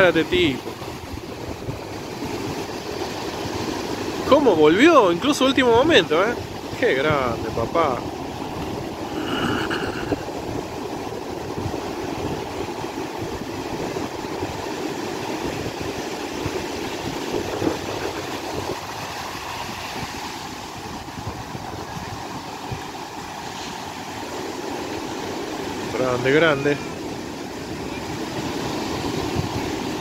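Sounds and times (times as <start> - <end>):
ocean surf breaking: 0.0 - 30.0.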